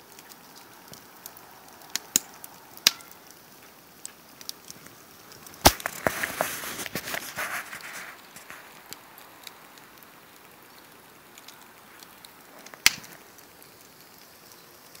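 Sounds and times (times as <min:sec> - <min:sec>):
fire sharp crack: 0:00.0 - 0:15.0
wood fire crackling: 0:00.0 - 0:15.0.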